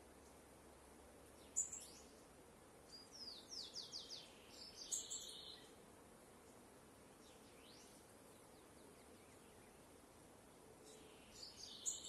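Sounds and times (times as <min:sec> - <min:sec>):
faint steady hiss: 0:00.0 - 0:12.0
wild birds singing: 0:00.0 - 0:12.0.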